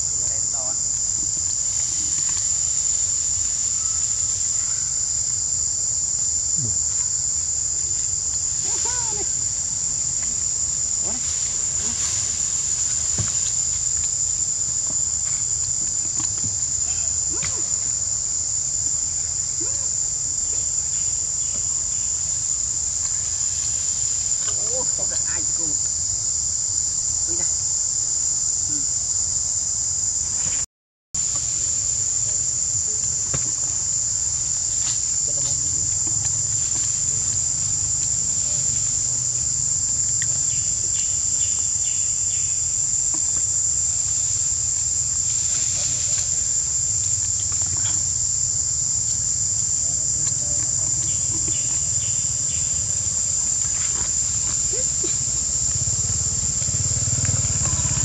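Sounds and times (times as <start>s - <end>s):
insects singing: 0.0s - 30.6s, 31.2s - 58.0s.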